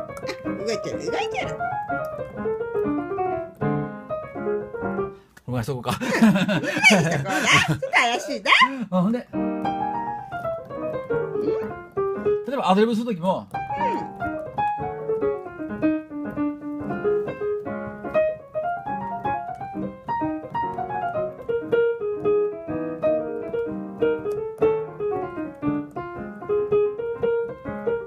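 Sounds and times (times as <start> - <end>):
jazz piano improvisation: 0.0 - 5.4, 6.3 - 28.0.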